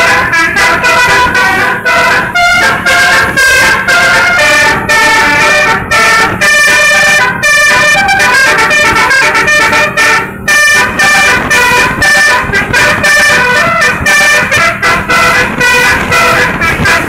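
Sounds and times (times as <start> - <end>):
bus horn playing a tune: 0.0 - 17.0.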